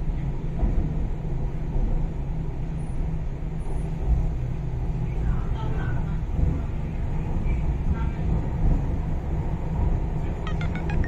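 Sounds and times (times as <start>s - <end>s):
train wheels rumbling on track: 0.0s - 10.4s.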